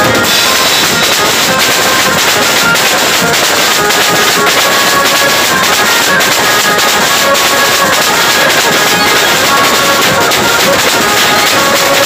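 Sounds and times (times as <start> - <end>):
banjo party band playing: 0.0 - 12.0
barrel drum: 0.0 - 12.0
drums struck with sticks: 0.0 - 12.0
held melody notes: 0.0 - 12.0.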